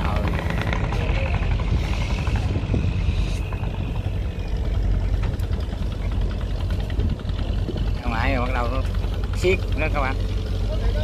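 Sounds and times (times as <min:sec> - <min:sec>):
boat diesel engines rumbling: 0:00.0 - 0:11.0.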